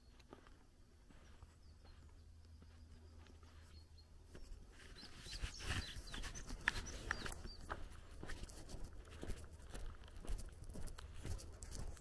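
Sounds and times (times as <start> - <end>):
light footsteps on road: 0.0 - 12.0
small songbirds chirping: 0.0 - 12.0.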